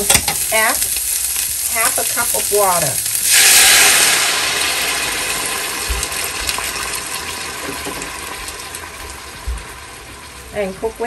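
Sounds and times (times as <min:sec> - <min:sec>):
water sizzling in hot frying pan: 0:00.0 - 0:11.0.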